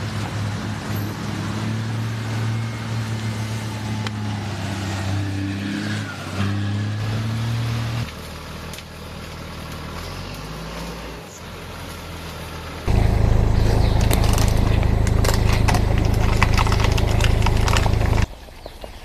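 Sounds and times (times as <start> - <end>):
diesel engine droning: 0.0 - 18.3
quieter vehicle engine: 0.0 - 18.4.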